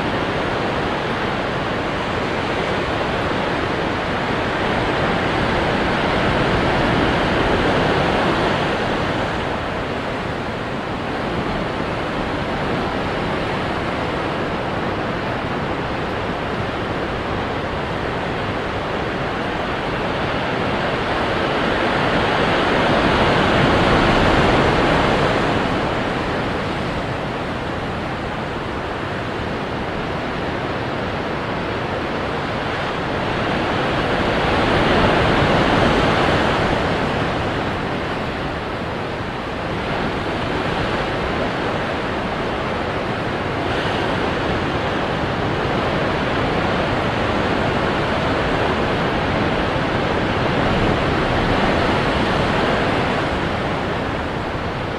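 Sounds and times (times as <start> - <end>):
ocean waves crashing on rocks: 0.0 - 54.9.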